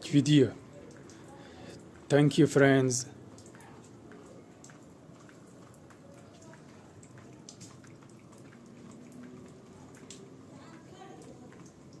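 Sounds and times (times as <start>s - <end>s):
faint low background noise: 0.0s - 12.0s.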